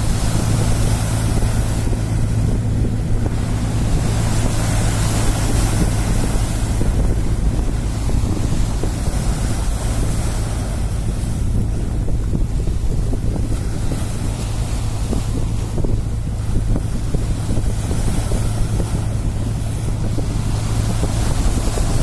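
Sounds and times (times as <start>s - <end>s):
waves splashing against rocks: 0.0s - 22.0s
wind buffeting microphone: 0.0s - 22.0s.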